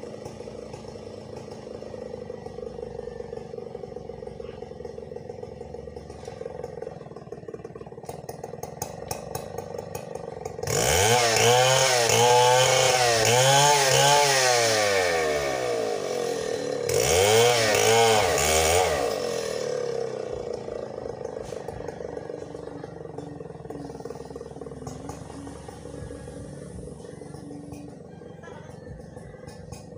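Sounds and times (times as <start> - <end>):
chainsaw revving: 0.0 - 29.9.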